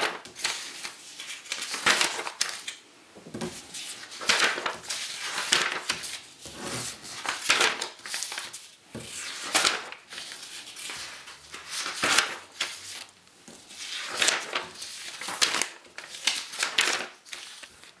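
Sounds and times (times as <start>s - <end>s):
paper rustling: 0.0s - 18.0s.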